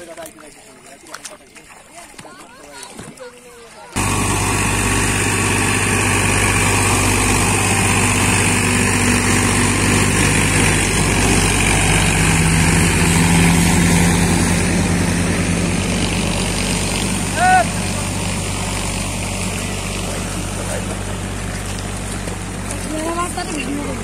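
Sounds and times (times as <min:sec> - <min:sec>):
rotary tiller churning mud: 0:00.0 - 0:24.0
tractor engine running under load: 0:04.0 - 0:24.0.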